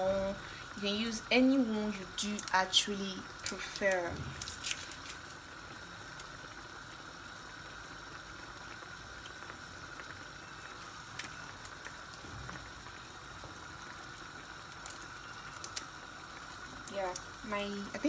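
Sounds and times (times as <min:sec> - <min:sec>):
sauce bubbling and sizzling: 0:00.0 - 0:18.0.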